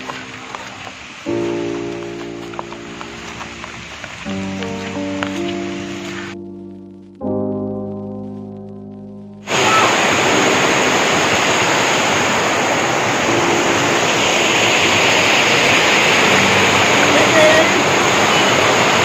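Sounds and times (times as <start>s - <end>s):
water rushing in a stream: 0.0s - 6.4s, 9.5s - 19.0s
music chord: 0.0s - 19.0s.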